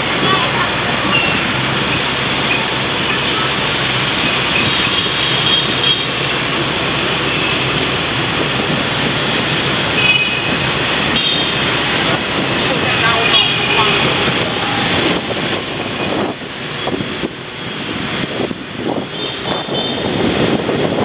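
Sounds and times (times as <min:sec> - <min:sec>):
road and traffic noise: 0:00.0 - 0:21.0
wind on microphone: 0:00.0 - 0:21.0.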